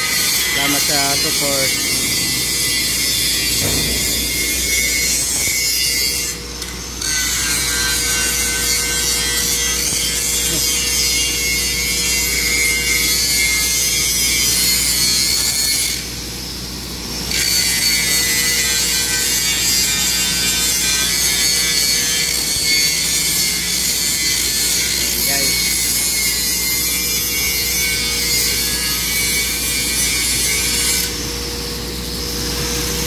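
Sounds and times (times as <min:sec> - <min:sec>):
angle grinder grinding steel: 0:00.0 - 0:16.1, 0:17.3 - 0:31.3.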